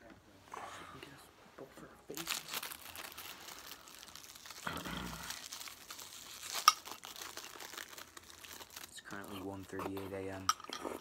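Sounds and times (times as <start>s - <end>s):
plastic and foil packaging crinkling: 2.1s - 11.0s.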